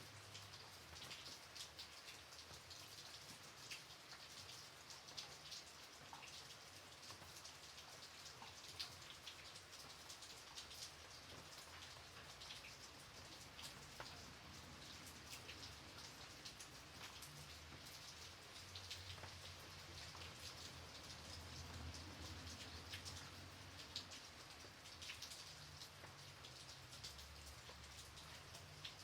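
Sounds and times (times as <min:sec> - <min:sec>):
rain drops pattering: 0:00.0 - 0:29.0.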